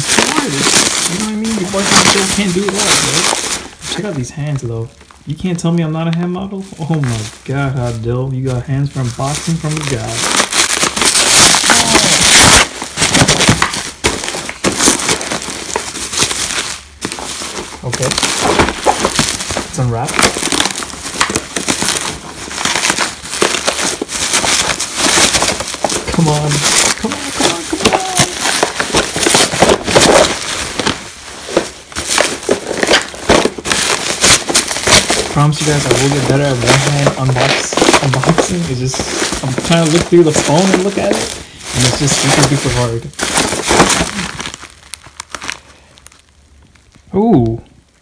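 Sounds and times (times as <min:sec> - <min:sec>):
bubble wrap crackling: 0:00.0 - 0:48.0.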